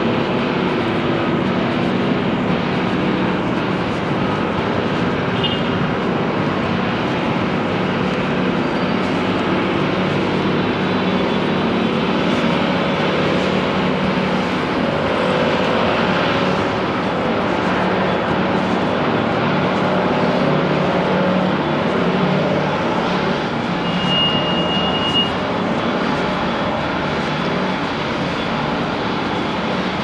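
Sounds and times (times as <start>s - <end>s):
constant low hum: 0.0s - 30.0s
traffic passing: 0.0s - 30.0s.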